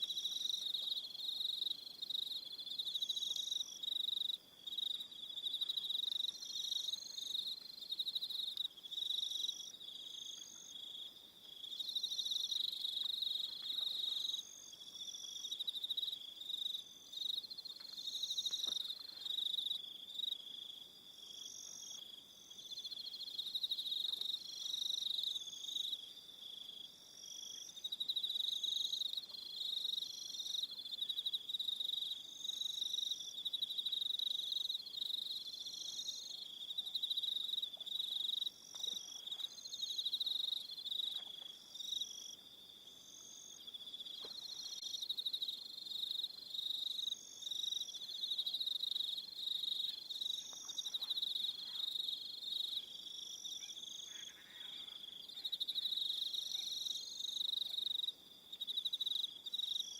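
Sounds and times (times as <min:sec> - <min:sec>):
crickets trilling: 0:00.0 - 0:59.9
high cricket chirps: 0:00.0 - 0:59.9.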